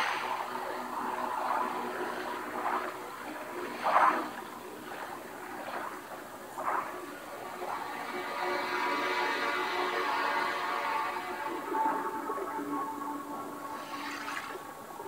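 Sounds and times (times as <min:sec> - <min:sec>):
muffled underwater wash: 0:00.0 - 0:15.0.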